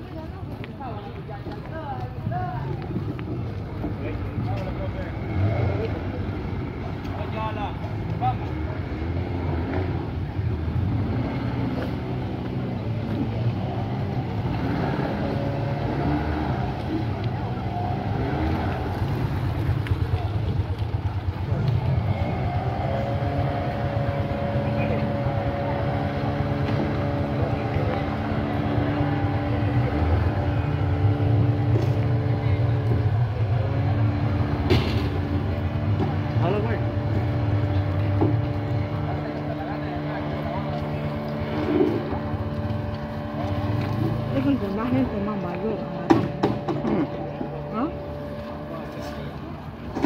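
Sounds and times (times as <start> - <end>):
outboard motor running: 0.2 - 50.0.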